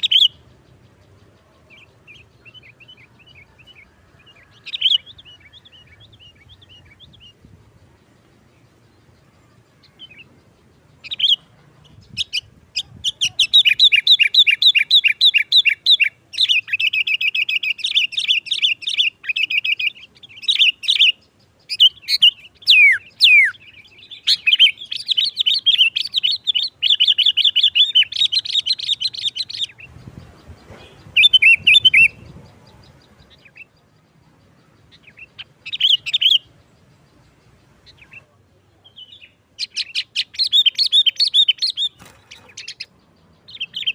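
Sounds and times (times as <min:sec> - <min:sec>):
bird chattering song: 0:00.0 - 0:43.9.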